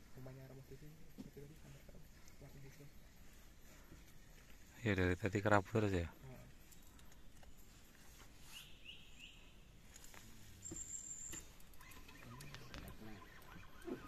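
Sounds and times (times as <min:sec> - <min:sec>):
bird chirping: 0:00.0 - 0:14.0
faint outdoor ambience: 0:00.0 - 0:14.0.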